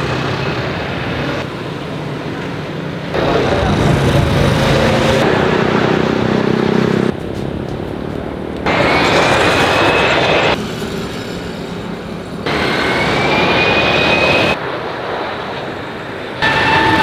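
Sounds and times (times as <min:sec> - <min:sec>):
jet engine noise: 0:00.0 - 0:17.0
rising engine whine: 0:00.0 - 0:17.0.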